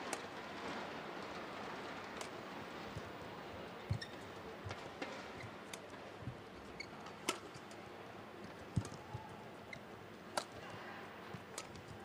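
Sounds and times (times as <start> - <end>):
faint arena hum: 0.0 - 12.0.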